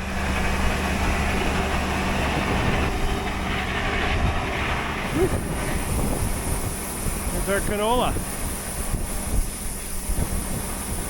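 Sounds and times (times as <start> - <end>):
low engine drone: 0.0 - 11.0
rushing noise: 0.0 - 11.0.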